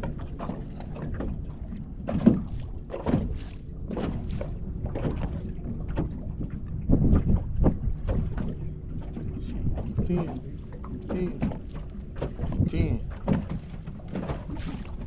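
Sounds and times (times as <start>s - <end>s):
water slapping against hull: 0.0s - 15.0s
wind buffeting microphone: 0.0s - 15.0s.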